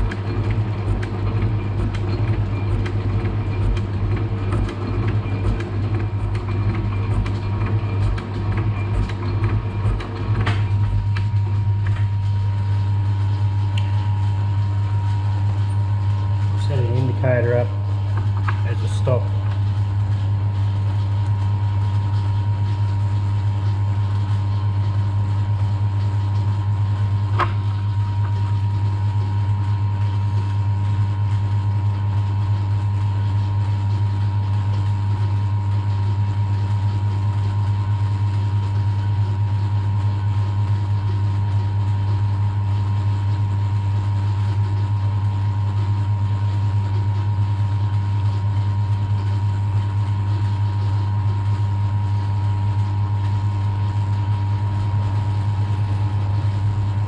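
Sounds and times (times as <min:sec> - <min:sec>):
milling machine hum and whine: 0:00.0 - 0:57.0.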